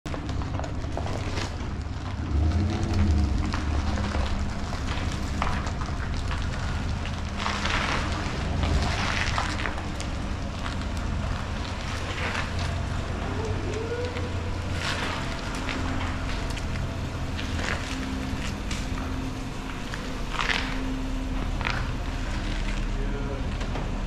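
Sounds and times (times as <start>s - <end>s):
truck engine idling: 0.0s - 24.0s
rustling noise: 0.1s - 23.0s.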